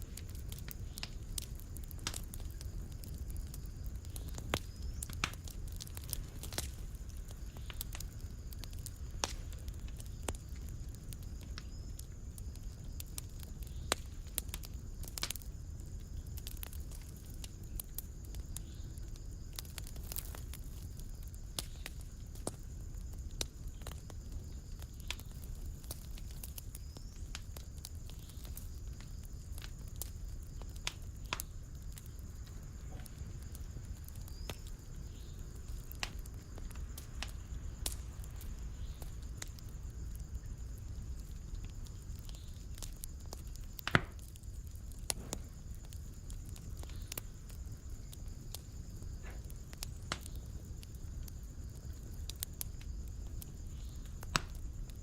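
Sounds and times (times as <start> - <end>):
fireplace fire crackling: 0.0 - 55.0
low fire rumble: 0.0 - 55.0.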